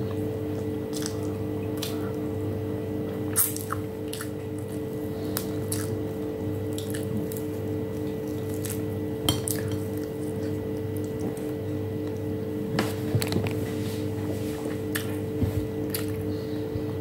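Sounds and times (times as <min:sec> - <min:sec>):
chewing and mouth sounds: 0:00.0 - 0:02.4, 0:03.1 - 0:12.3, 0:14.6 - 0:17.0
steady low hum: 0:00.0 - 0:17.0.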